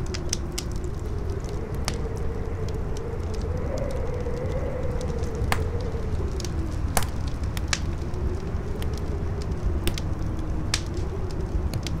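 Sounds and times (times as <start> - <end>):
campfire crackling and popping: 0.0 - 12.0
faint wavering howl: 0.0 - 12.0
strong wind rumble: 0.0 - 12.0.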